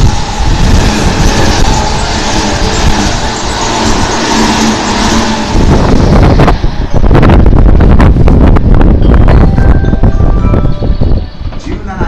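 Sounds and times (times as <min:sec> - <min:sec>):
steady whine: 0:00.0 - 0:12.0
train wheels rushing on rail: 0:00.0 - 0:12.0.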